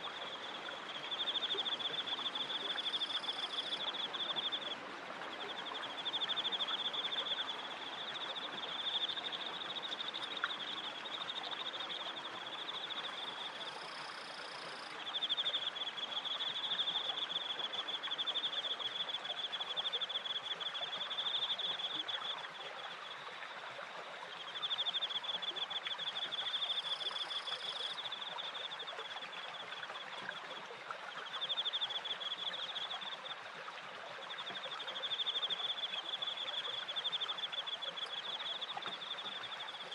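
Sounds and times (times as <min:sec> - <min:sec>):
crickets trilling: 0:00.1 - 0:04.8, 0:05.4 - 0:22.4, 0:24.5 - 0:29.0, 0:31.4 - 0:33.3, 0:34.4 - 0:39.8.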